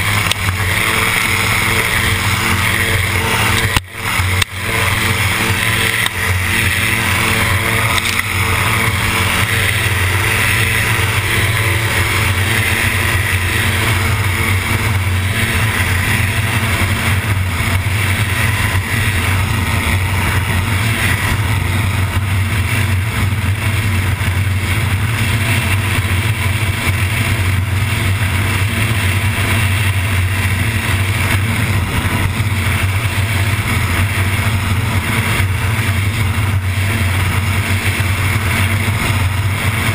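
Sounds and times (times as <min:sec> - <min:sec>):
aircraft engine and propeller: 0:00.0 - 0:39.9
rushing wind: 0:00.0 - 0:39.9.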